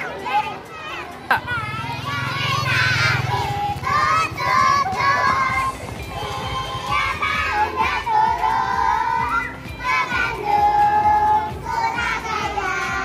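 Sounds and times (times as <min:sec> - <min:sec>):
music: 0:00.0 - 0:13.0
children singing: 0:02.0 - 0:13.0.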